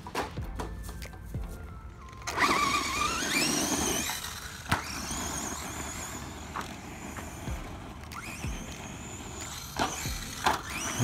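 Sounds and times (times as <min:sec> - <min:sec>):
electric motor whining: 0:02.0 - 0:11.0.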